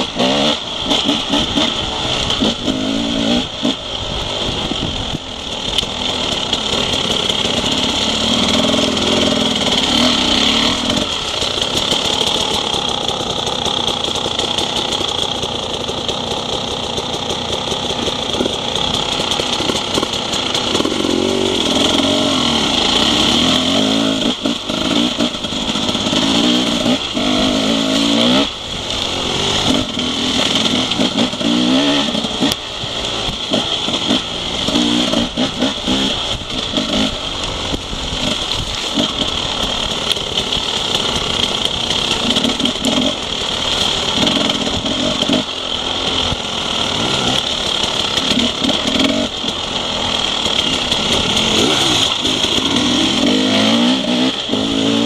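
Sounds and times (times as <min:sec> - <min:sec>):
bike riding through long grass: 0:00.0 - 0:55.0
motorcycle engine revving: 0:00.0 - 0:55.0.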